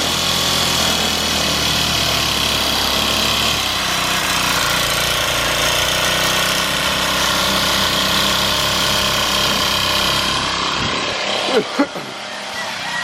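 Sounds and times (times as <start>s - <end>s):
string trimmer cutting grass: 0.0s - 13.0s.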